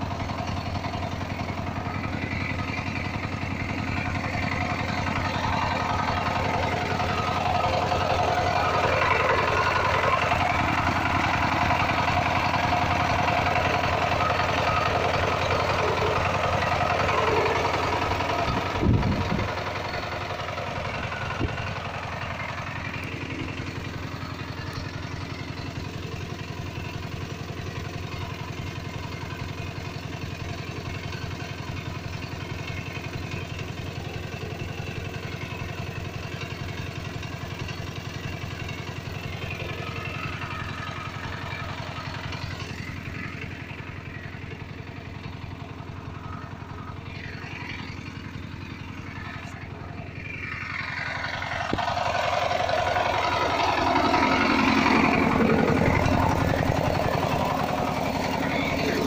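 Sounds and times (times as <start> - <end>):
diesel engine knocking: 0.0 - 59.0.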